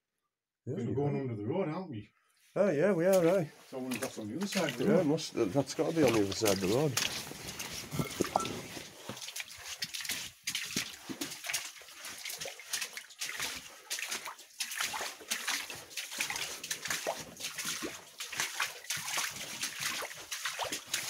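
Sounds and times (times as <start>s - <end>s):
footsteps splashing through water: 3.0s - 21.0s.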